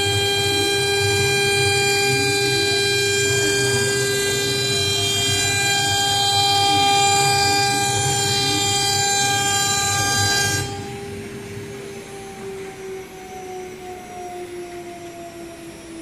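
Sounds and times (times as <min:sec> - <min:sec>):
spindle high-pitched whine: 0:00.0 - 0:16.0.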